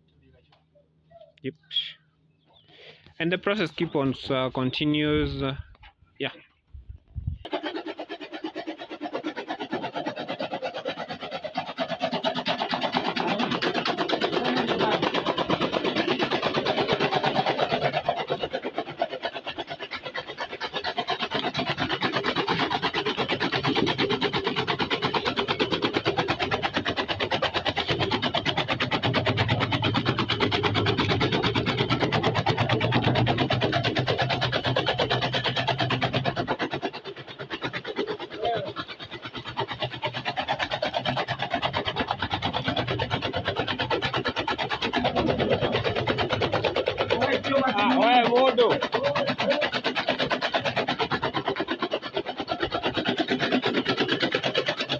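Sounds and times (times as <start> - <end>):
chaff cutter chopping stalks: 7.4 - 54.9.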